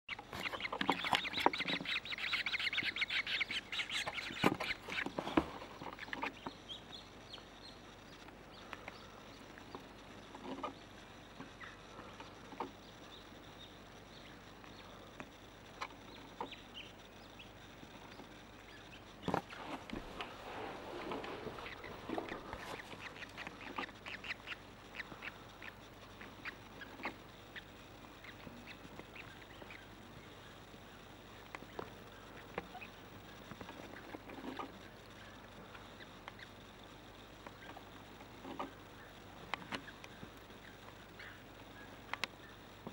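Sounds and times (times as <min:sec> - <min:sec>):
chicks peeping: 0:00.1 - 0:42.9.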